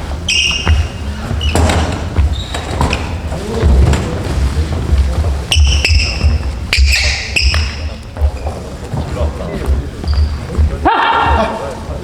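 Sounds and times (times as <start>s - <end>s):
footsteps on court: 0.0s - 12.0s.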